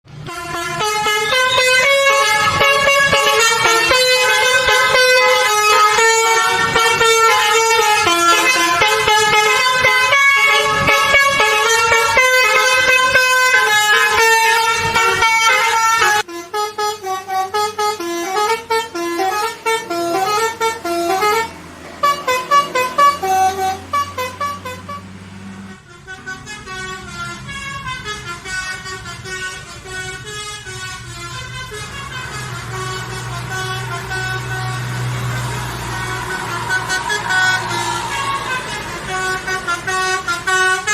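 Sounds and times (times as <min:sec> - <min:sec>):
multi-tone air horn tune: 0:00.2 - 0:40.9.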